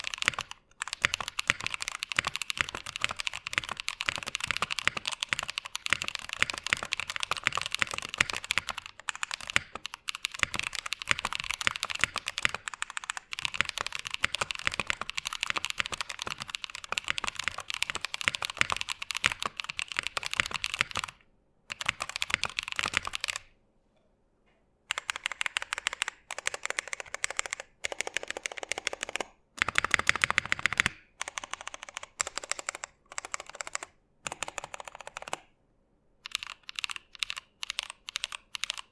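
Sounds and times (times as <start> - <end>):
mechanical keyboard typing: 0.0 - 23.5, 24.9 - 35.5, 36.2 - 38.9.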